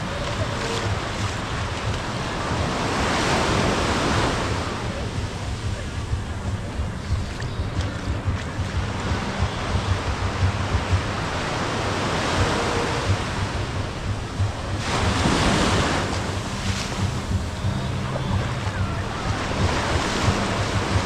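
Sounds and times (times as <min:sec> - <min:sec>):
ocean surf on beach: 0:00.0 - 0:21.0
wind buffeting microphone: 0:00.0 - 0:21.0.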